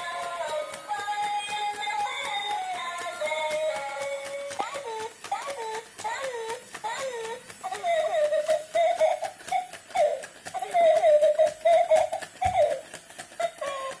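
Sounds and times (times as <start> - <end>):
electronic baby giggling and babbling: 0.0 - 14.0.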